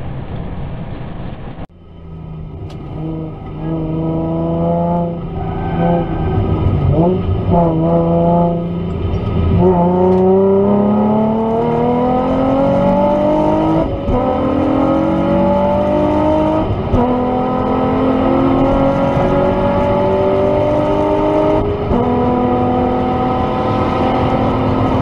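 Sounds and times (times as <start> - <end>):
car engine accelerating hard: 1.7 - 25.0.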